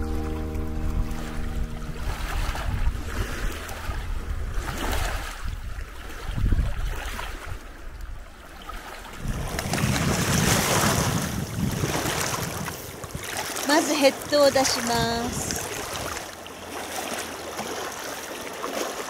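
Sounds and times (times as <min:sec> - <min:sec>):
wind rumbling on microphone: 0:00.0 - 0:16.3
small waves lapping on shore: 0:00.0 - 0:19.0.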